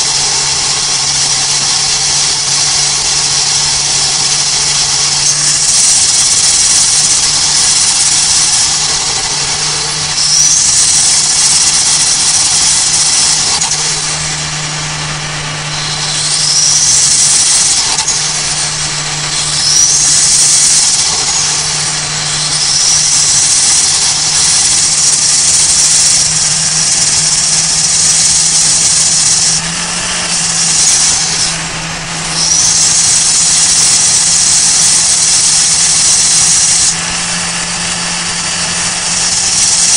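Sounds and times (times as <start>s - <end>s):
car engine drone: 0.0s - 39.9s
high turbo whistle: 0.0s - 39.9s.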